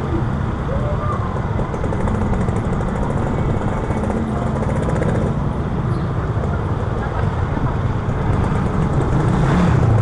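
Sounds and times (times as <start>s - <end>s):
motorcycle engine drone: 0.0s - 10.0s
road noise: 0.0s - 10.0s.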